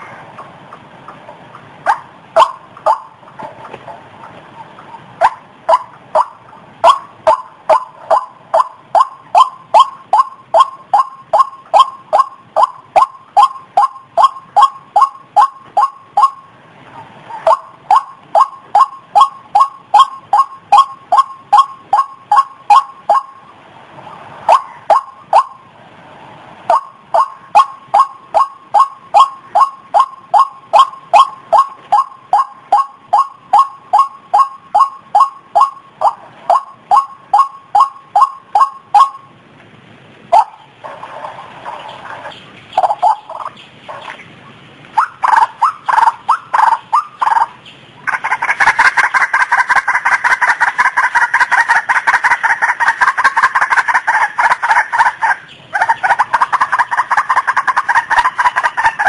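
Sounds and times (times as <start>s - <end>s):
waterhen calling: 0.0s - 25.7s, 26.6s - 39.4s, 40.2s - 59.0s.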